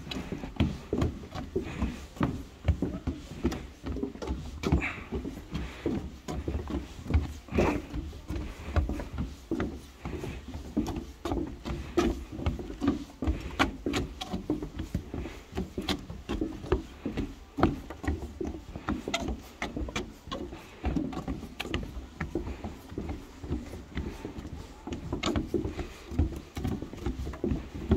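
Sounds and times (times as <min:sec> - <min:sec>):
footsteps on wooden boardwalk: 0:00.0 - 0:27.9.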